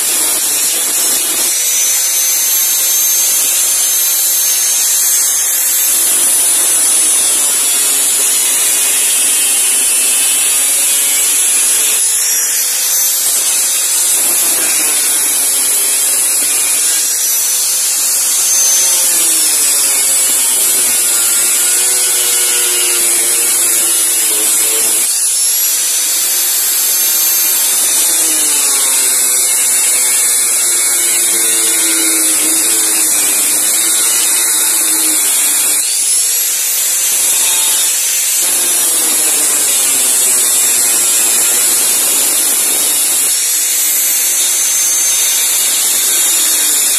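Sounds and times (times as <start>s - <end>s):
angle grinder cutting steel: 0.0s - 46.9s.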